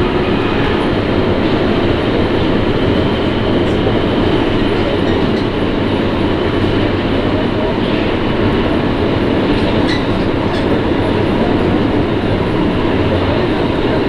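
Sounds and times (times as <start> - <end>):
subway train rumbling in tunnel: 0.0 - 14.0.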